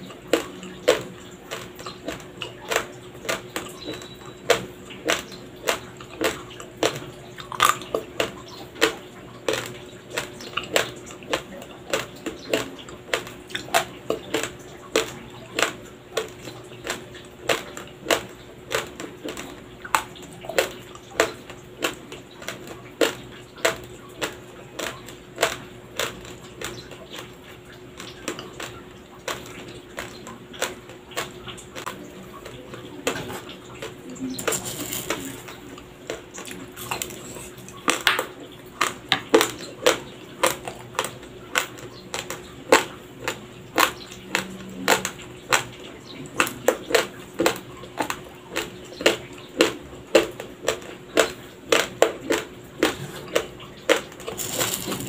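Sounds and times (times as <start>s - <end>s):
crunching of raw rice chewed: 0.0s - 55.0s.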